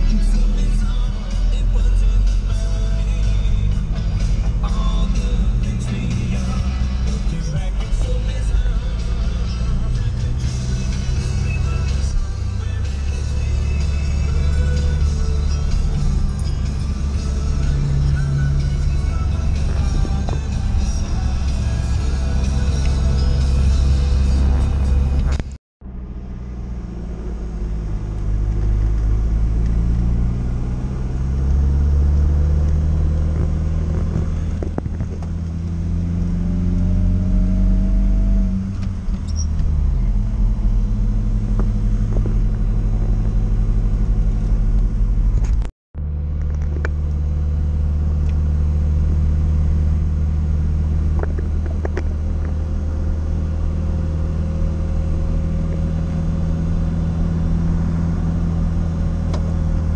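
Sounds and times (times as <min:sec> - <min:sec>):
van engine revving: 0:00.0 - 0:59.9.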